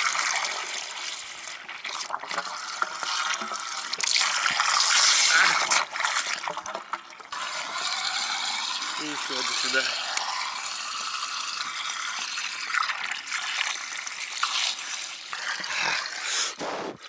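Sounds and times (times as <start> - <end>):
hose water filling tank: 0.0 - 17.0.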